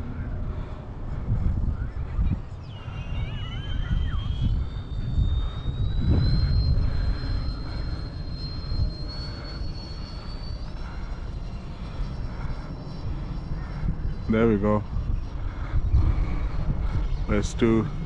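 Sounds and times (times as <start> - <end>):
electric ducted fans whining: 0.0 - 18.0
wind rumbling on microphone: 0.0 - 18.0.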